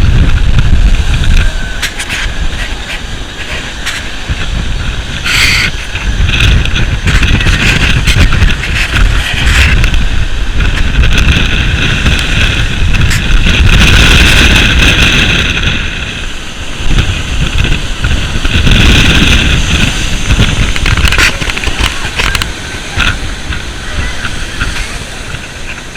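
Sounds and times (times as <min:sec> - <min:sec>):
waves breaking: 0:00.0 - 0:25.9
wind buffeting microphone: 0:00.0 - 0:25.9.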